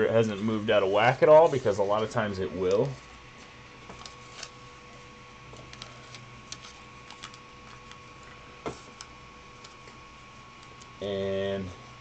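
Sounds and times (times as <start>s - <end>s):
faint printer hum: 0.0s - 12.0s.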